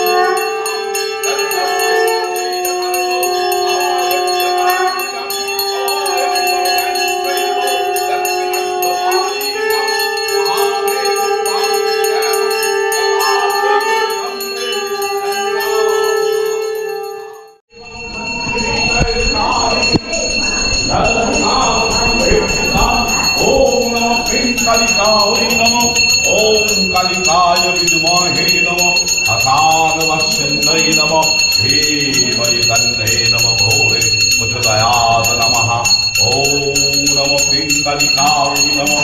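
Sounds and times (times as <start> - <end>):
brass hand bell ringing: 0.0 - 39.0.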